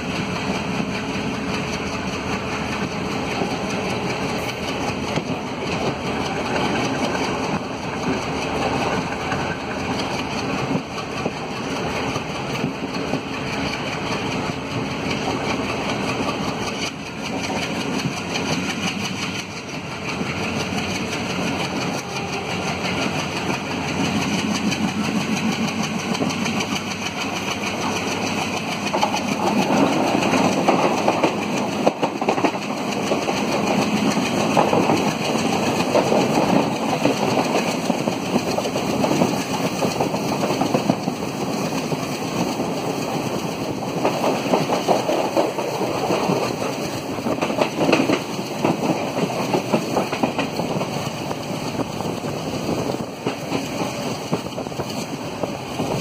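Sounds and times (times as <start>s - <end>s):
diesel locomotive engine chugging: 0.0s - 56.0s
moving train rumbling: 0.0s - 56.0s.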